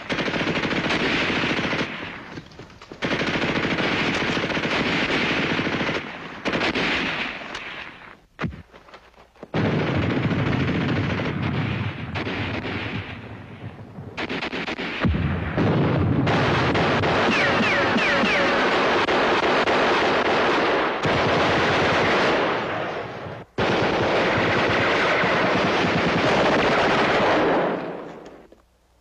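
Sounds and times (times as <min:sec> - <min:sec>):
machine-gun and rifle fire: 0:00.0 - 0:08.7, 0:09.5 - 0:28.1.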